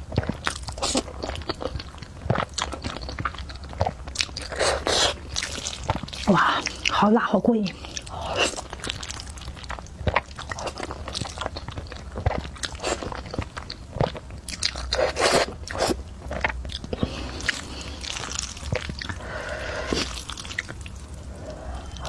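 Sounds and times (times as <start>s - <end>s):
chewing and biting: 0.1s - 7.0s, 7.7s - 22.0s.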